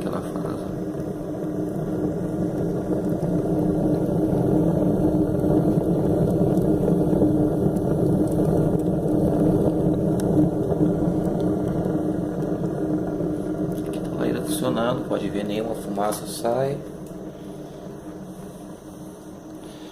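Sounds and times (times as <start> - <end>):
constant hum: 0.0 - 19.9
stove fire roaring: 0.0 - 19.9.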